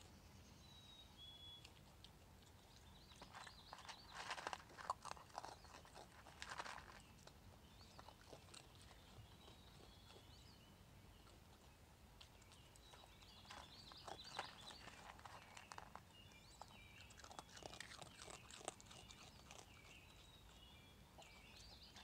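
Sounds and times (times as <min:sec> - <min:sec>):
raccoon chewing and crunching food: 0:00.0 - 0:22.0.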